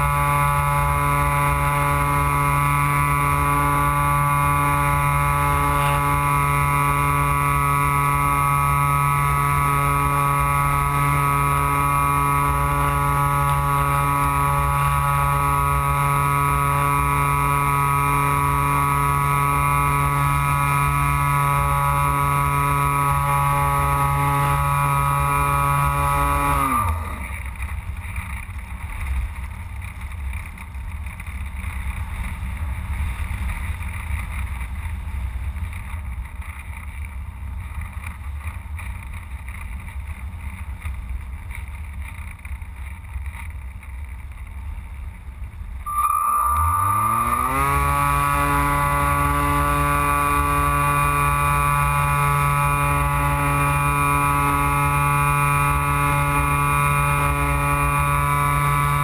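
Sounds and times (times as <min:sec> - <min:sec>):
electric motor and propeller drone: 0:00.0 - 0:35.0, 0:45.9 - 0:59.0.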